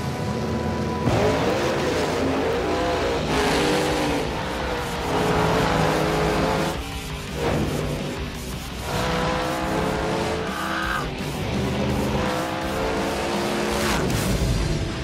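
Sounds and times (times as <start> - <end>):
car engines revving: 0.0 - 15.0
tires spinning: 0.0 - 15.0.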